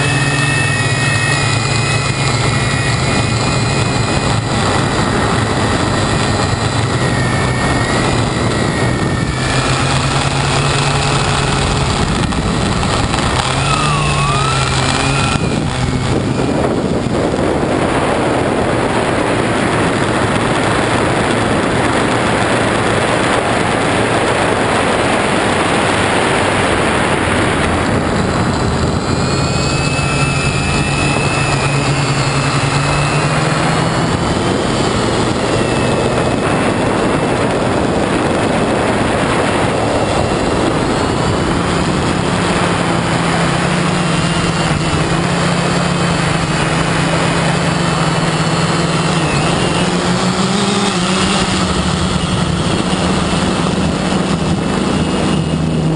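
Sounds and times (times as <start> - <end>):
high motor whine: 0.0 - 55.9
propeller hum: 0.0 - 55.9.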